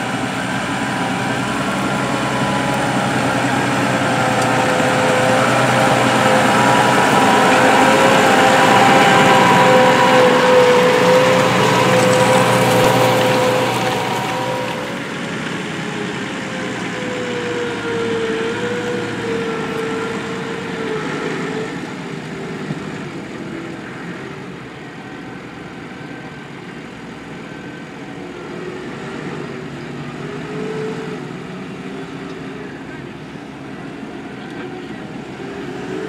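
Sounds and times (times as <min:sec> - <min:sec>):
tractor diesel engine under load: 0:00.0 - 0:36.0.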